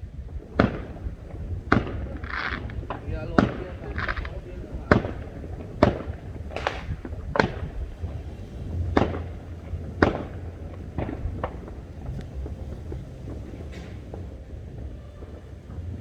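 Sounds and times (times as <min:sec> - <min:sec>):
fireworks bursting with echo: 0:00.0 - 0:16.0
steady low rumble: 0:00.0 - 0:16.0.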